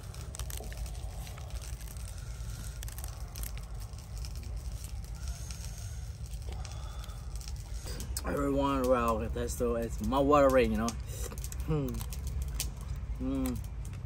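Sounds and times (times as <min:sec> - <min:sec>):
crackling and tearing of charred meat: 0:00.0 - 0:14.0
steady low rumble: 0:00.0 - 0:14.0.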